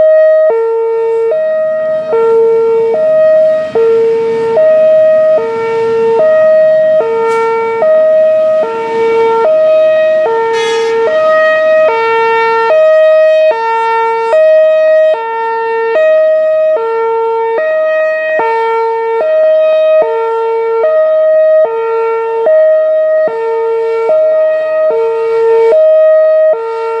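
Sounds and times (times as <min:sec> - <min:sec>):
hi-lo electronic siren: 0:00.0 - 0:27.0.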